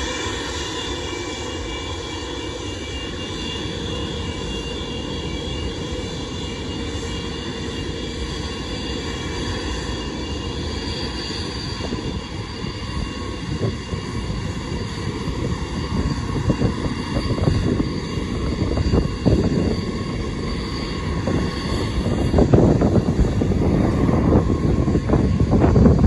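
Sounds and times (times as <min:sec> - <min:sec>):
jet engines whining: 0:00.0 - 0:26.0
wind gusting on microphone: 0:02.9 - 0:26.0.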